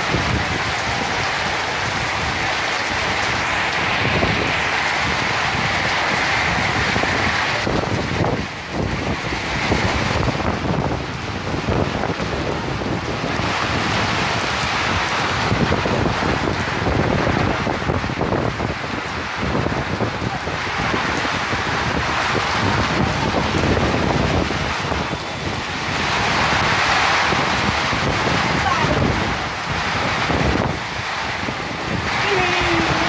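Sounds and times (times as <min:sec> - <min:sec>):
heavy rain pouring: 0:00.0 - 0:33.0
wind rumbling on microphone: 0:00.0 - 0:33.0.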